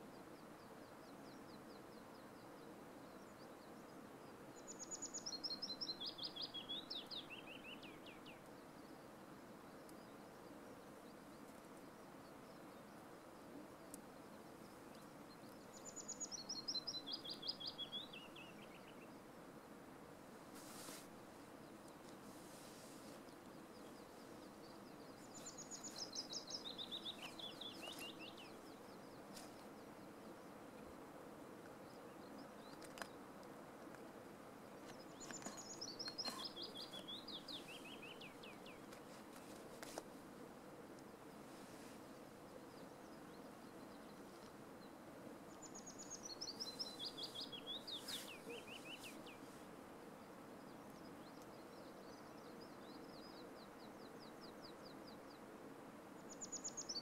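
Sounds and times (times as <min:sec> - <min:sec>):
faint outdoor hiss: 0:00.0 - 0:57.0
songbird singing: 0:00.0 - 0:57.0.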